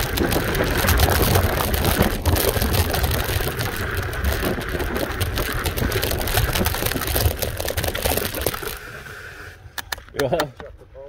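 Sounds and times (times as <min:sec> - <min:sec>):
scooter rattles and knocks: 0:00.0 - 0:08.9
wind and tyre rumble: 0:00.0 - 0:11.0.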